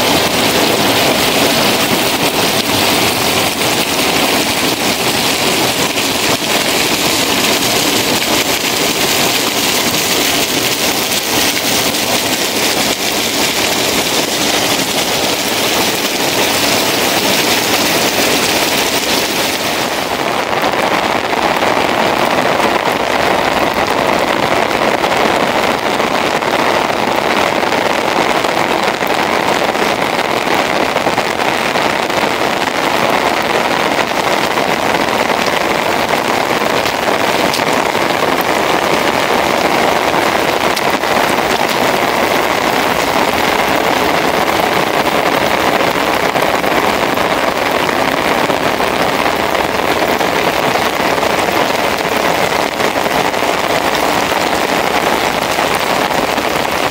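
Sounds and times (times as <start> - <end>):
heavy rain on pavement: 0.0 - 56.9.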